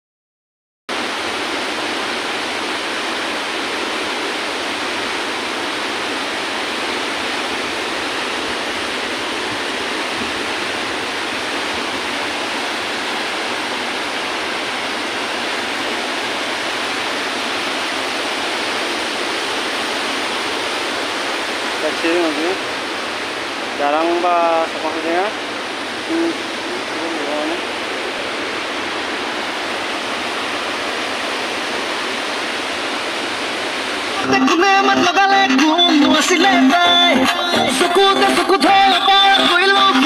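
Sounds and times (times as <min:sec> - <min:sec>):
water cascading over rocks: 0:00.9 - 0:40.0.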